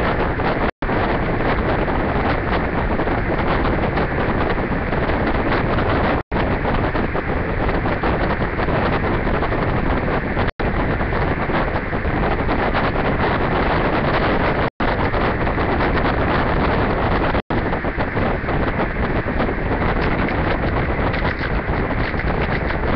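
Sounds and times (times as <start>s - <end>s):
loud rushing noise: 0.0s - 22.9s.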